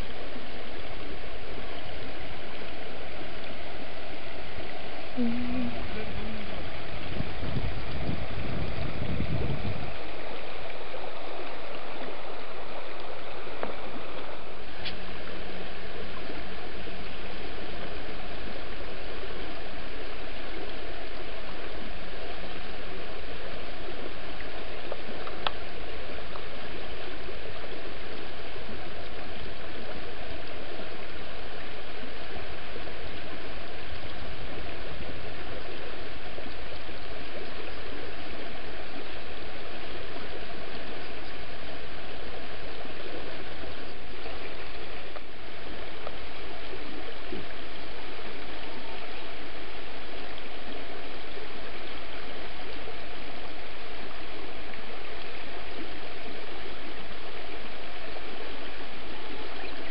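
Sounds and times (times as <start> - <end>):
river flowing over stones: 0.0 - 59.9.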